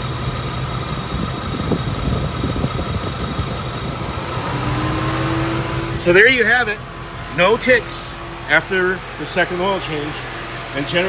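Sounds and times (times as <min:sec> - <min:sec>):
car engine idling: 0:00.0 - 0:11.0
electric radiator fan running: 0:00.0 - 0:11.0.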